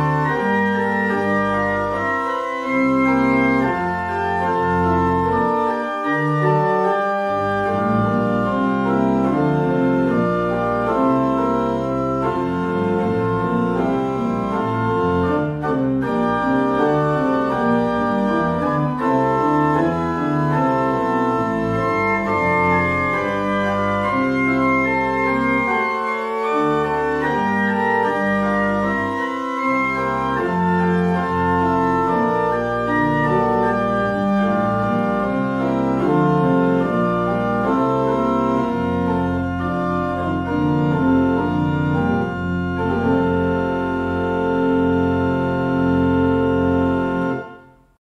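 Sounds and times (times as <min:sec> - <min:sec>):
pipe organ playing held chords: 0:00.0 - 0:48.0.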